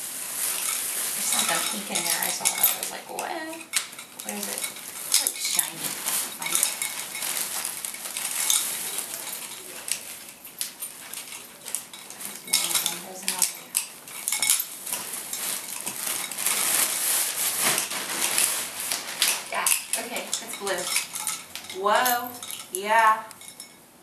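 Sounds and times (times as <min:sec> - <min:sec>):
fabric rustling and crinkling: 0:00.0 - 0:23.8
handling clicks and knocks: 0:01.2 - 0:16.7, 0:17.6 - 0:23.8.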